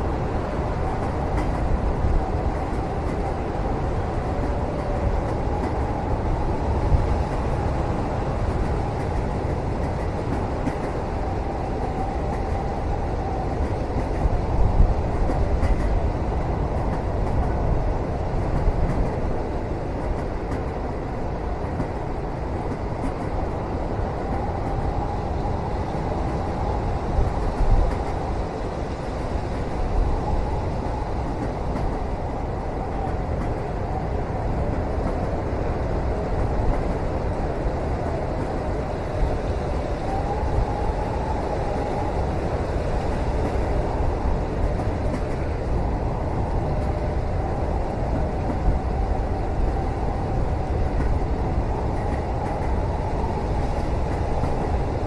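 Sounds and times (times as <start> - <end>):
train rumbling inside cabin: 0.0 - 55.0.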